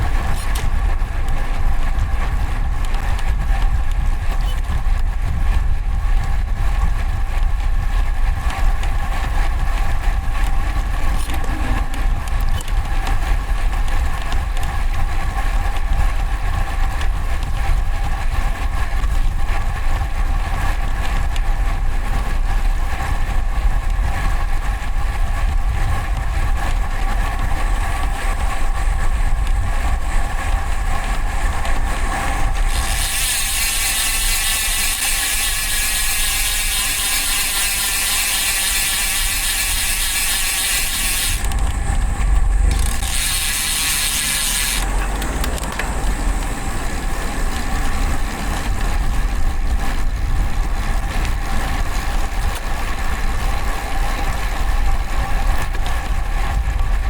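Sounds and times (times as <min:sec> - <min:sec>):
bicycle freehub buzzing: 0:00.0 - 0:56.7
wind and road rumble: 0:00.0 - 0:57.0.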